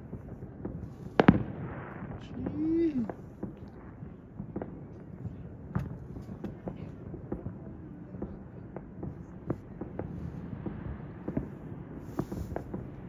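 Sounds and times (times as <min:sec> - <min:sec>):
distant fireworks popping: 0:00.0 - 0:13.0
steady low rumble: 0:00.0 - 0:13.0.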